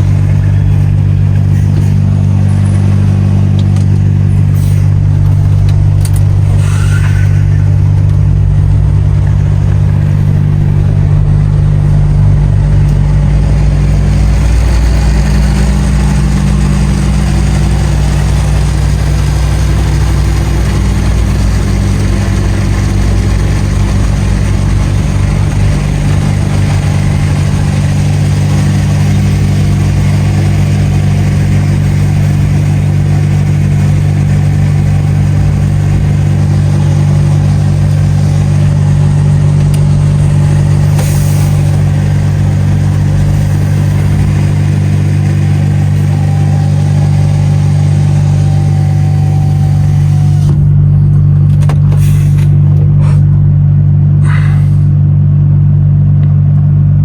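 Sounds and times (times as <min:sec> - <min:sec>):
road and tyre noise: 0:00.0 - 0:57.0
truck diesel engine running: 0:00.0 - 0:57.0.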